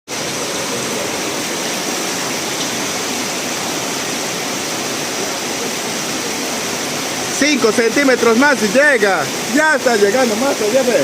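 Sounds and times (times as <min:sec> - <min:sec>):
heavy rain: 0:00.1 - 0:11.0
rushing floodwater: 0:00.1 - 0:11.0.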